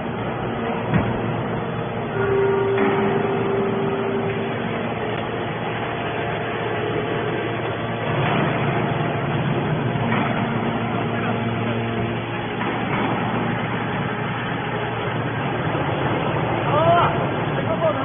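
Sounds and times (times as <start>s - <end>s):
heavy machinery running: 0.0s - 18.0s
held machine whine: 0.0s - 18.0s.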